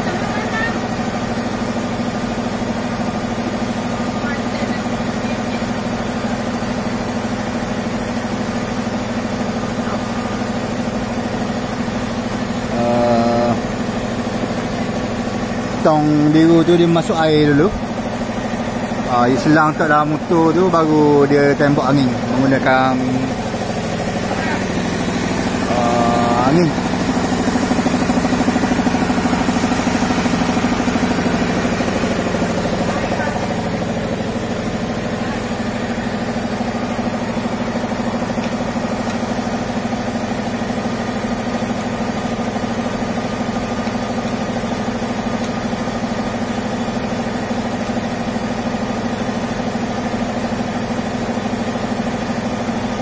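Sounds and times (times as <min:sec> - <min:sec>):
air compressor running: 0:00.0 - 0:53.0.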